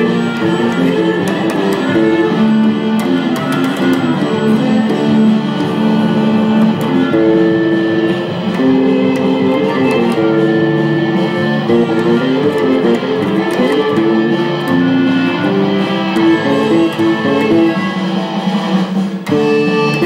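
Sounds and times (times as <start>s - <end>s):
electric bass plucked: 0.0s - 20.0s
rock music with electric guitar: 0.0s - 20.0s.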